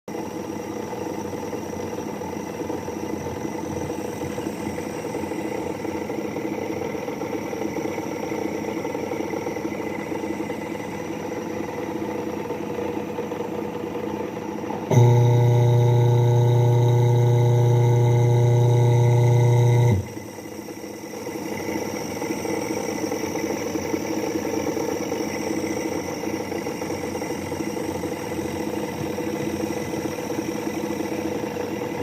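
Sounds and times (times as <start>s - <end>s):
washing machine motor humming: 0.1s - 32.0s.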